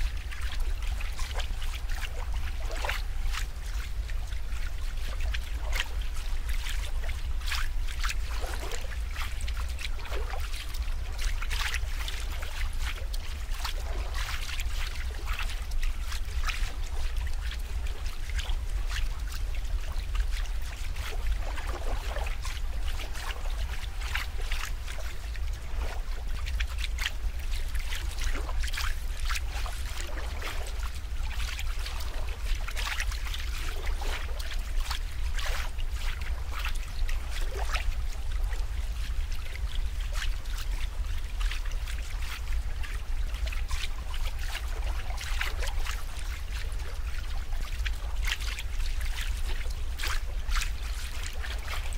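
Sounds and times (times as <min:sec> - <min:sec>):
small water splashes: 0:00.0 - 0:51.9
steady low rumble: 0:00.0 - 0:51.9
water trickling and lapping: 0:00.0 - 0:51.9.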